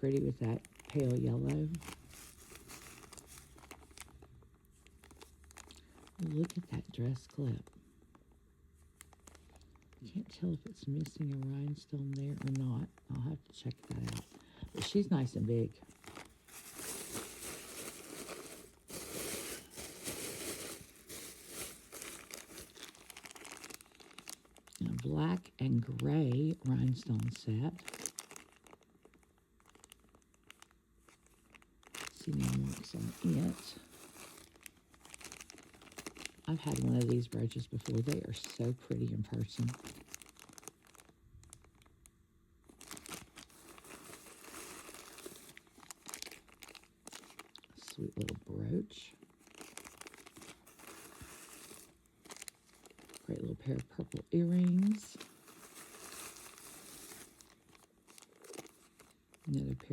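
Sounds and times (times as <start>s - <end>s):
plastic bag crinkling: 0.0s - 59.9s.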